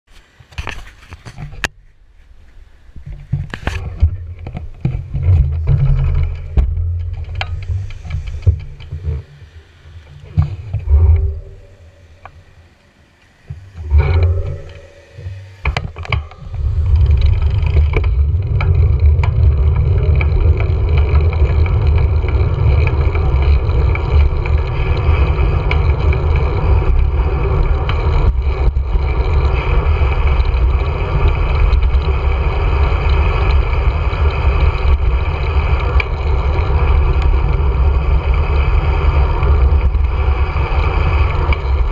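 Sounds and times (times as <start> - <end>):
tyre and road noise: 0.1 - 41.9
wind buffeting microphone: 2.9 - 41.9.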